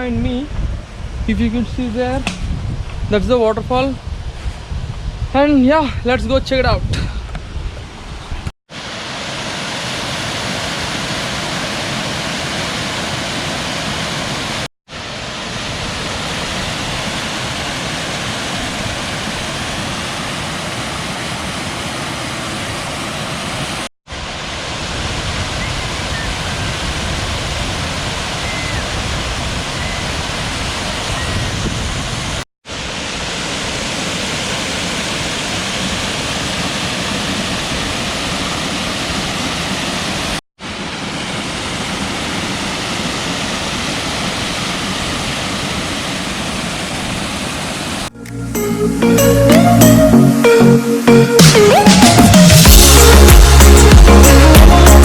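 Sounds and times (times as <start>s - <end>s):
waterfall rushing: 8.7s - 55.0s.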